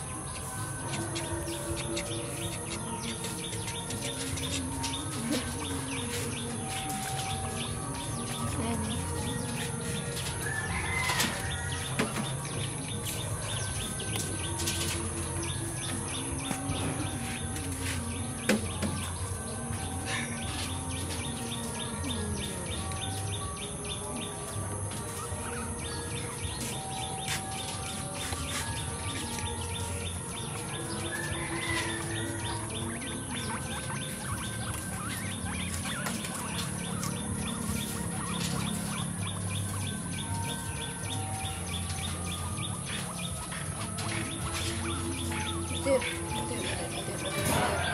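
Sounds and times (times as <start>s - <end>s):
birds chirping and singing: 0.0s - 47.9s.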